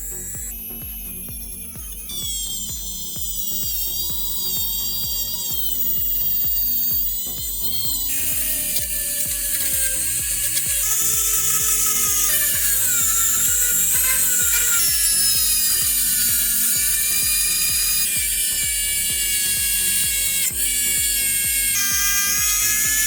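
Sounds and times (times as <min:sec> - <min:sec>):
background music: 0:00.0 - 0:23.0
rotary tool whining: 0:00.0 - 0:23.0.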